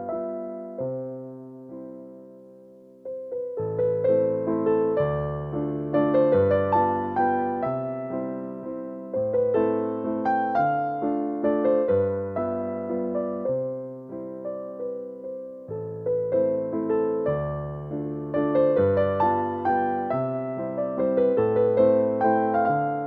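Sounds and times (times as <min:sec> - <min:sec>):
electric piano melody: 0:00.0 - 0:23.0.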